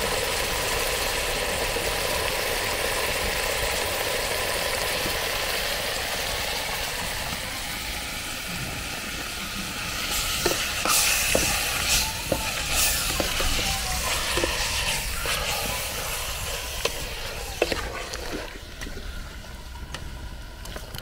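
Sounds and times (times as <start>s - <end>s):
pumpkin sizzling in a pot: 0.0s - 20.2s.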